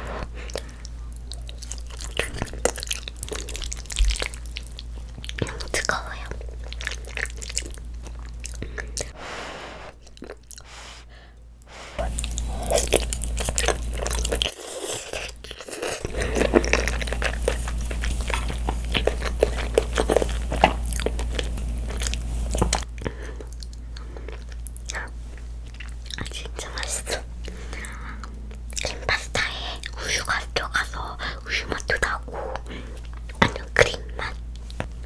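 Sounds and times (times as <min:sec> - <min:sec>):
child slurping and chewing spaghetti: 0:00.0 - 0:34.8.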